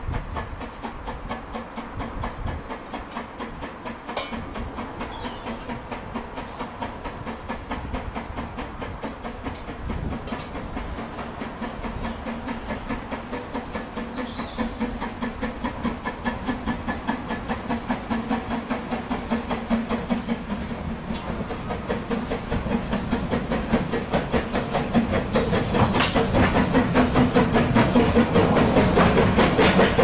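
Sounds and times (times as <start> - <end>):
steam hissing: 0.0 - 30.0
steam locomotive chuffing: 0.0 - 30.0.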